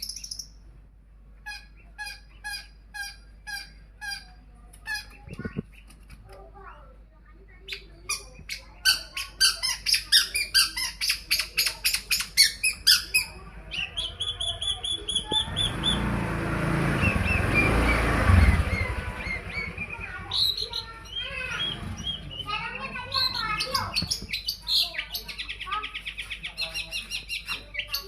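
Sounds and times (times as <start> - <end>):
bird harsh rasping calls: 1.4 - 6.0, 7.7 - 28.0.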